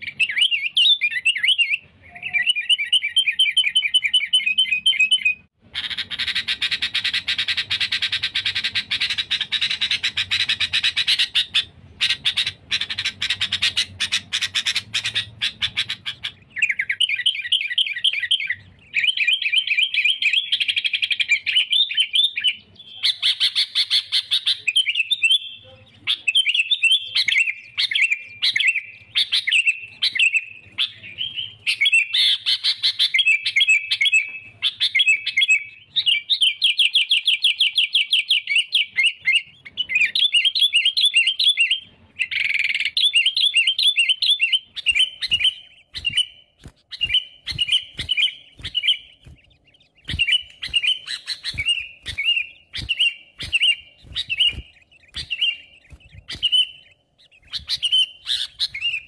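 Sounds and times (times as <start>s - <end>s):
bird singing chattering phrases: 0.0s - 59.0s.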